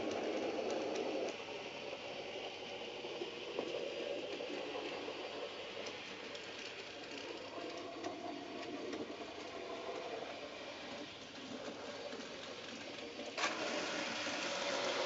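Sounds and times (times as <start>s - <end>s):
model railway whirring rumble: 0.0s - 15.0s.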